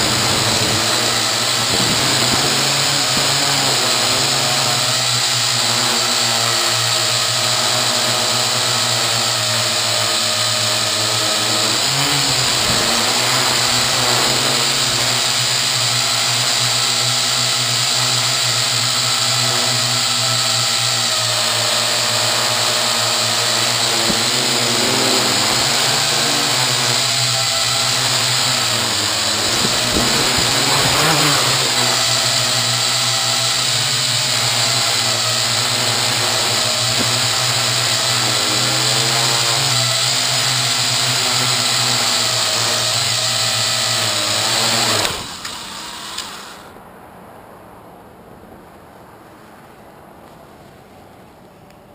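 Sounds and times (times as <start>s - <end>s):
quadcopter motors whining: 0.0s - 46.8s.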